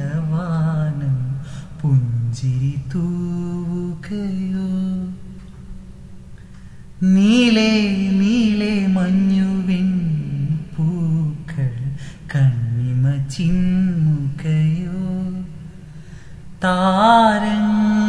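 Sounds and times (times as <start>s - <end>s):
man singing wordless melody: 0.0s - 5.5s, 7.0s - 18.0s.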